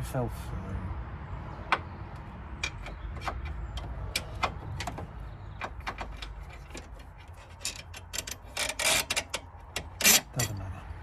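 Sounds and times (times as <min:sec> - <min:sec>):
metallic clicks and knocks: 0:01.7 - 0:10.6.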